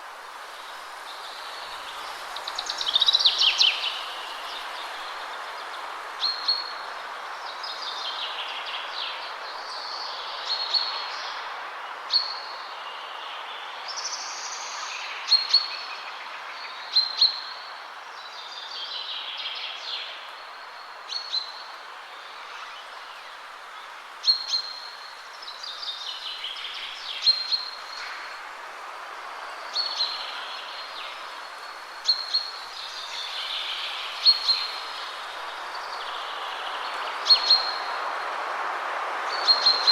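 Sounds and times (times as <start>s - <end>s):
wind rushing through trees: 0.0s - 39.9s.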